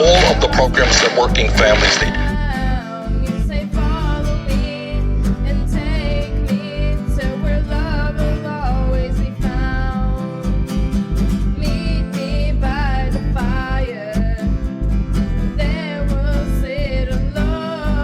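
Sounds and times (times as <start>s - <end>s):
steady low bass: 0.0s - 2.8s, 3.4s - 17.5s
plucked guitar melody: 0.0s - 18.0s.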